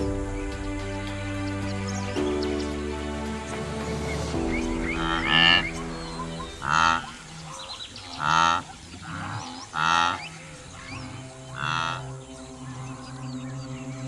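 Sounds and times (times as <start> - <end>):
background music with held notes: 0.0 - 8.6, 9.8 - 14.0.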